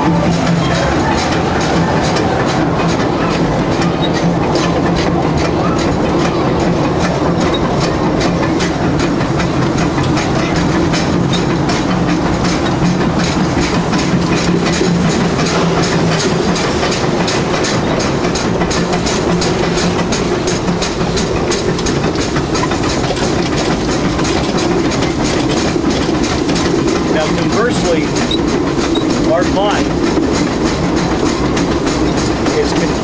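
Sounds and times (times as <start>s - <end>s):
constant rushing noise: 0.0s - 33.0s
rhythmic wheel clatter: 0.0s - 33.0s
steady low hum: 0.0s - 33.0s.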